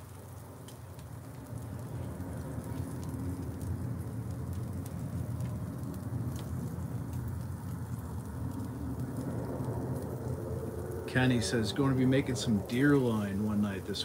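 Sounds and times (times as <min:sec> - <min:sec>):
crackles and pops: 0:00.0 - 0:14.0
meat sizzling on a grill: 0:00.0 - 0:14.0
low rumble: 0:00.9 - 0:14.0.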